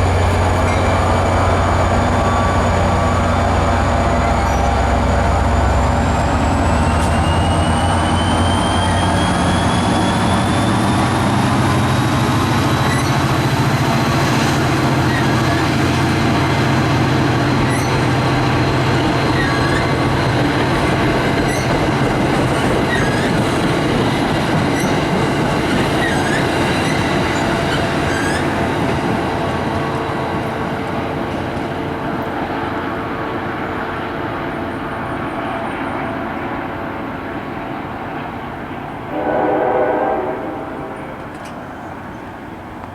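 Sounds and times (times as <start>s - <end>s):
train whine rising in pitch: 0.0s - 37.6s, 39.0s - 42.5s
train engine and wheel rumble: 0.0s - 42.9s.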